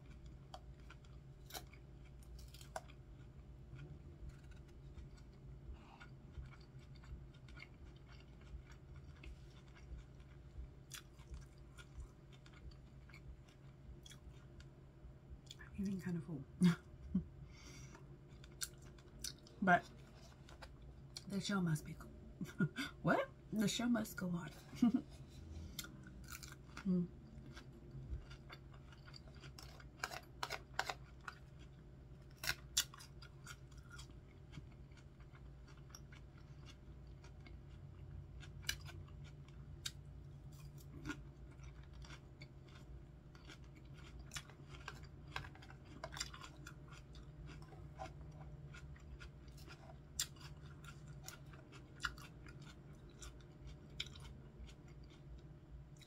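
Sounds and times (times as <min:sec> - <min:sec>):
chewing crunchy lettuce: 0:00.0 - 0:14.7, 0:17.9 - 0:21.4, 0:24.2 - 0:56.0
faint low hum: 0:00.0 - 0:56.0.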